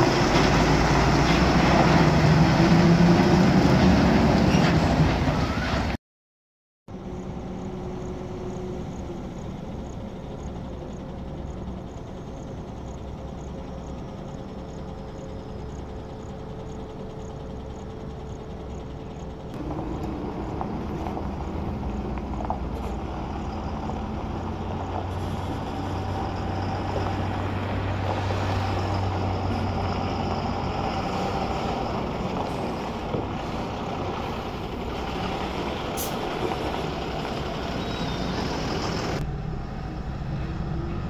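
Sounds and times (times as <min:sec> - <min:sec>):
truck diesel engine running: 0:00.0 - 0:05.3, 0:06.9 - 0:41.0
road noise inside a car: 0:06.9 - 0:41.0.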